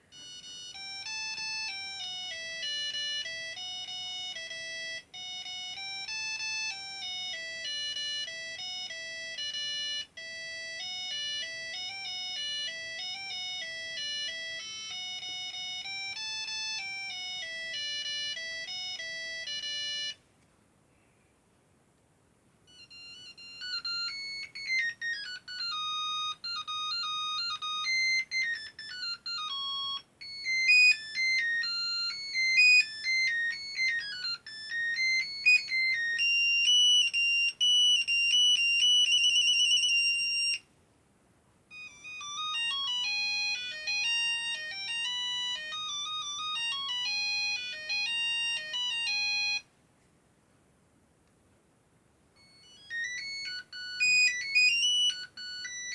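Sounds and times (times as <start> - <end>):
electronic beeping ringtone melody: 0.1 - 20.2, 22.7 - 40.7, 41.7 - 49.6, 52.4 - 55.9.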